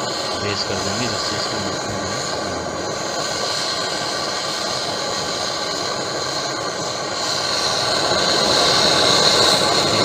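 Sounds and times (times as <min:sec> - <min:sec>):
brazing torch flame hissing: 0:00.0 - 0:10.0.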